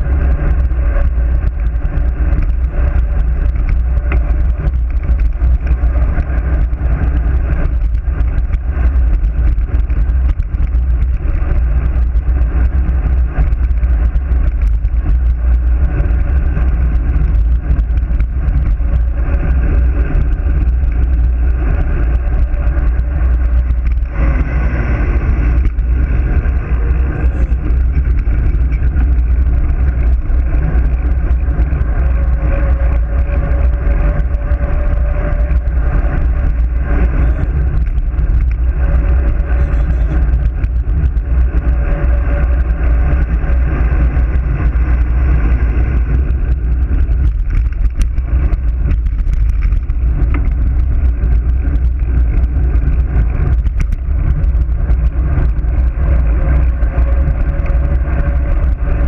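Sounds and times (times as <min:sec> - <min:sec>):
tyre noise on asphalt: 0:00.0 - 0:59.0
wind buffeting microphone: 0:00.0 - 0:59.0.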